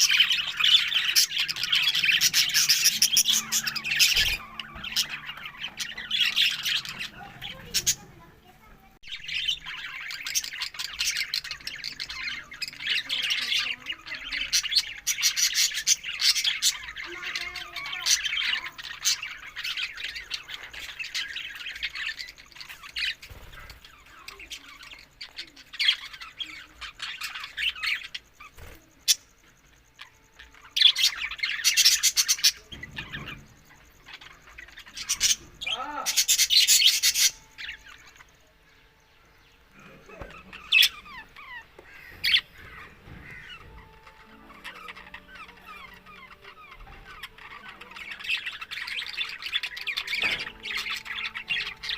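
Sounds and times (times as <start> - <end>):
budgerigars chattering: 0.0 - 51.9
harsh bird calls: 0.0 - 51.9.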